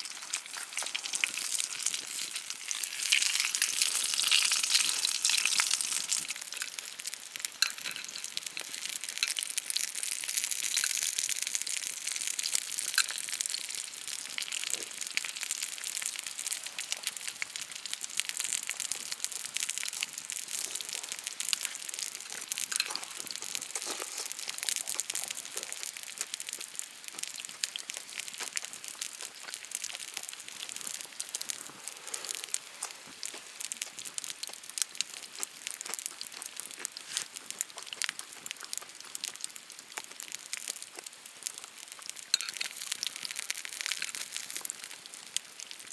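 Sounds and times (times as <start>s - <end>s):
steak sizzling in a hot pan: 0.0s - 45.9s.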